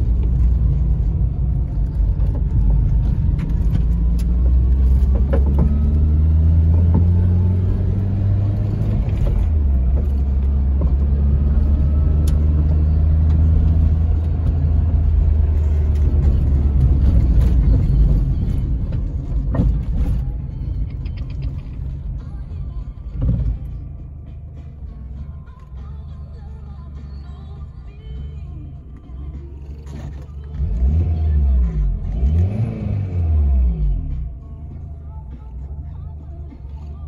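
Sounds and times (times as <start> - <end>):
car engine heard from cabin: 0.0 - 37.0.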